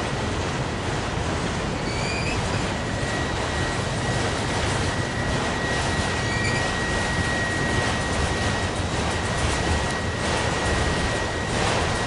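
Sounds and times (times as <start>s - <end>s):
rumble and clatter of train wheels: 0.0s - 12.0s
thin high whine: 1.8s - 12.0s.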